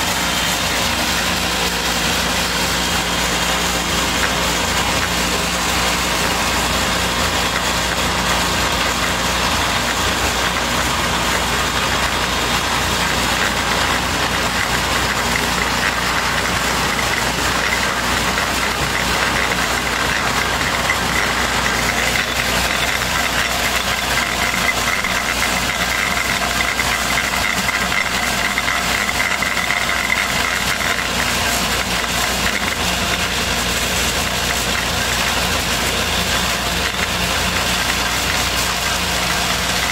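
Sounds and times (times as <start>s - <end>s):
pellet mill droning with rattle: 0.0s - 39.9s.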